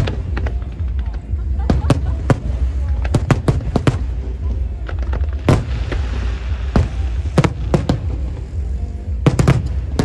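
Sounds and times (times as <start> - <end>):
fireworks bangs: 0.0 - 10.0
steady low rumble: 0.0 - 10.0.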